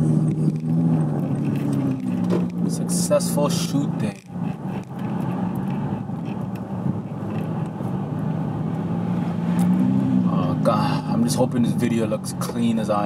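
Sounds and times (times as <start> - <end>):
car cabin hum with road noise: 0.0 - 13.0.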